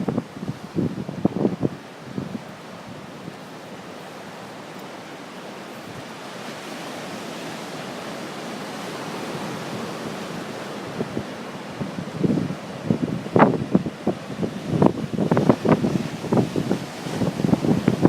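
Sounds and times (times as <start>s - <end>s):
sea surf washing onto shore: 0.0s - 18.0s
wind buffeting microphone: 0.0s - 18.0s.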